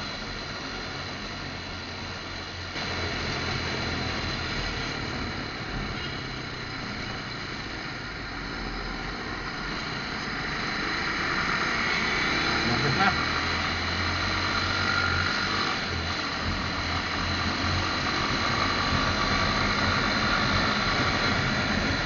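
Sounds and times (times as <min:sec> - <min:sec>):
road and wind noise: 0:00.0 - 0:22.0
surrounding traffic: 0:00.0 - 0:22.0.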